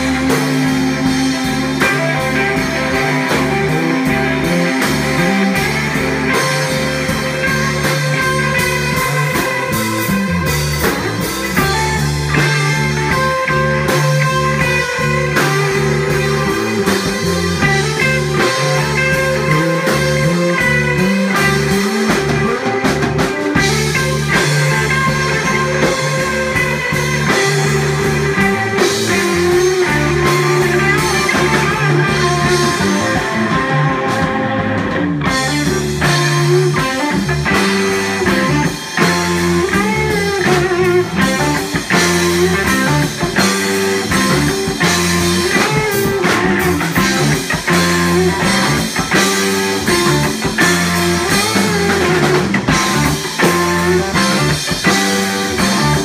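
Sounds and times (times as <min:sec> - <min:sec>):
bass and drums: 0:00.0 - 0:56.0
electric guitar lines: 0:00.0 - 0:56.0.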